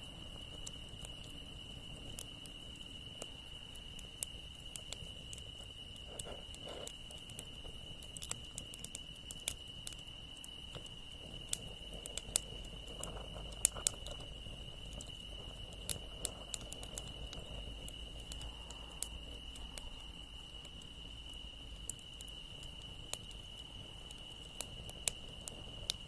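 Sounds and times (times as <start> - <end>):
campfire crackling and popping: 0.0 - 26.0
crickets trilling: 0.0 - 26.0.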